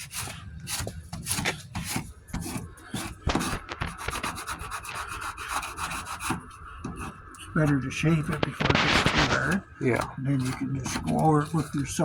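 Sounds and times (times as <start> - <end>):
sandpaper scraping body filler: 0.0 - 12.0.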